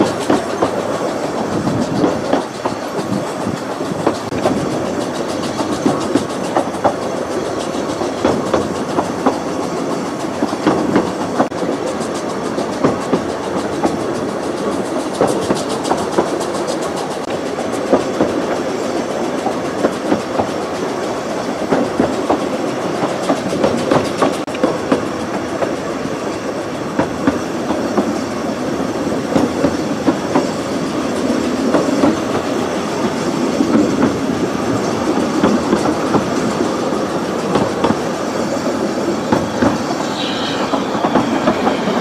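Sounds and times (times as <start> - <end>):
train rumbling on track: 0.0 - 42.0
wheels clicking on rails: 0.0 - 42.0.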